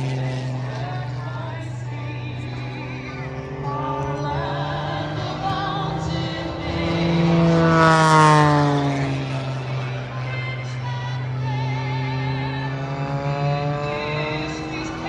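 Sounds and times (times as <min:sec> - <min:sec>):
music with singing voice: 0:00.0 - 0:07.7, 0:09.7 - 0:15.0
propeller aircraft flying past: 0:00.0 - 0:15.0.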